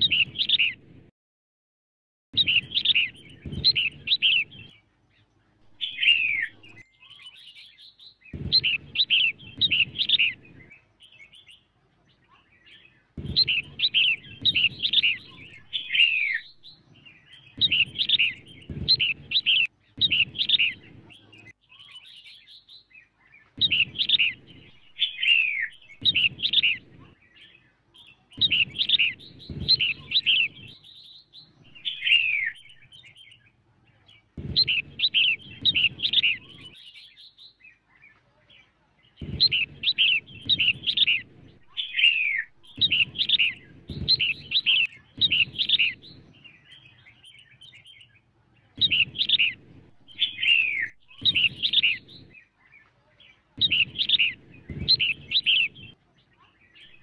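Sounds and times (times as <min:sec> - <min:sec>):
bird chattering chirps: 0:00.0 - 0:00.8, 0:02.4 - 0:04.8, 0:05.7 - 0:22.8, 0:23.5 - 0:33.6, 0:34.2 - 0:37.6, 0:39.1 - 0:48.2, 0:48.8 - 0:52.5, 0:53.6 - 0:57.0.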